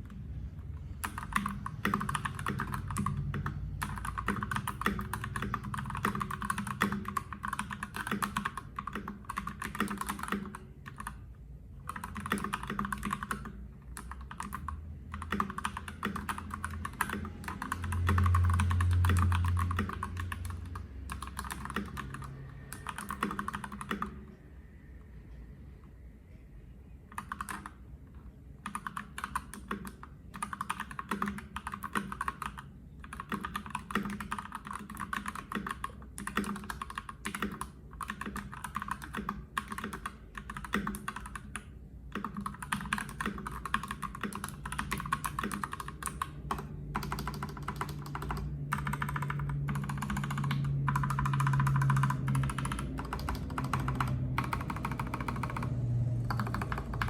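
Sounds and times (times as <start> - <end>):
mechanical keyboard typing: 0.0 - 24.4, 27.1 - 27.9, 28.6 - 57.0
low steady hum: 0.0 - 57.0.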